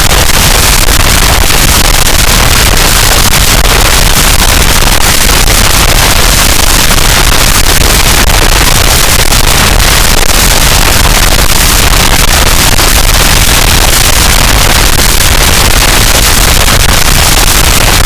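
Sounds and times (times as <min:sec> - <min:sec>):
distorted static noise wall: 0:00.0 - 0:18.0.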